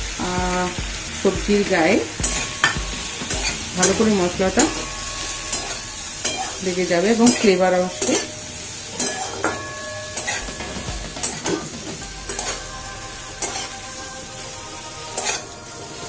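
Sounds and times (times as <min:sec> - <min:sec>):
food sizzling in a pan: 0:00.0 - 0:16.0
spatula scraping a pan: 0:02.2 - 0:16.0.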